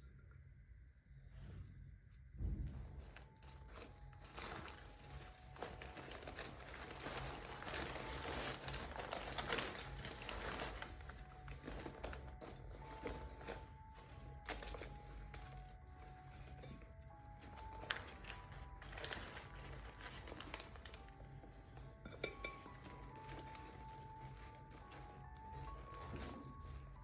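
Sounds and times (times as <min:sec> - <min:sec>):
crinkling and rustling: 0:01.4 - 0:27.0.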